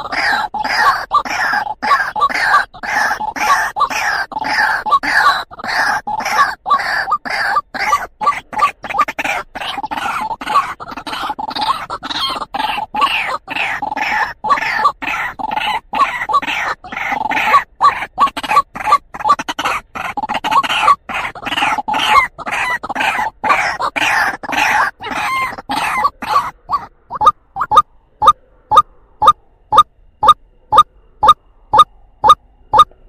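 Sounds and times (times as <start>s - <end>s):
waterhen calling: 0.0s - 32.9s.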